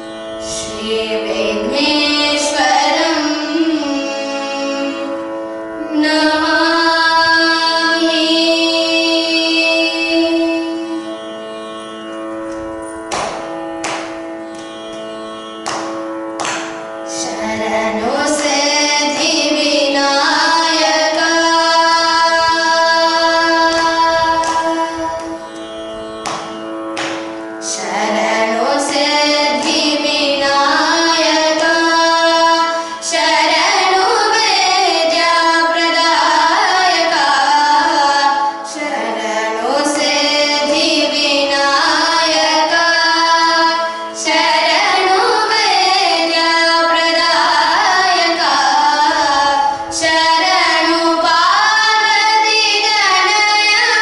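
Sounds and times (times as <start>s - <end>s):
women singing: 0.4s - 5.2s, 5.8s - 11.0s, 17.1s - 25.4s, 27.6s - 54.0s.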